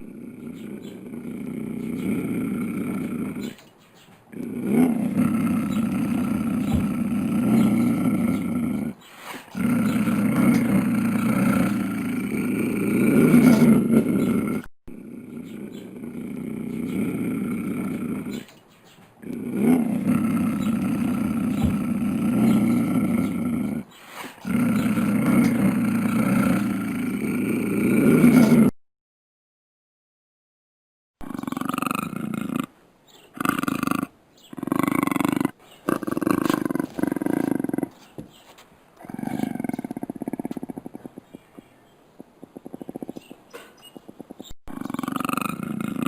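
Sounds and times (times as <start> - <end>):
lion growling and roaring: 0.0 - 3.7, 4.3 - 18.6, 19.2 - 28.7, 31.2 - 32.7, 33.3 - 38.0, 39.0 - 41.3, 44.2 - 46.0.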